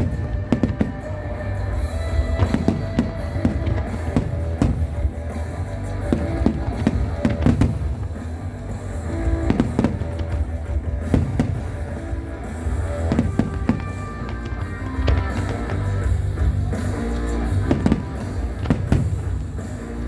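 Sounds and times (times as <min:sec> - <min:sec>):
loud music with held notes: 0:00.0 - 0:20.0.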